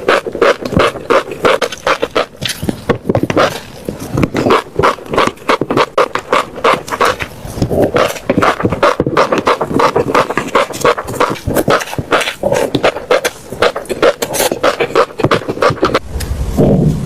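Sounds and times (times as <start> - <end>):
crunchy seeds being chewed: 0.0 - 16.0.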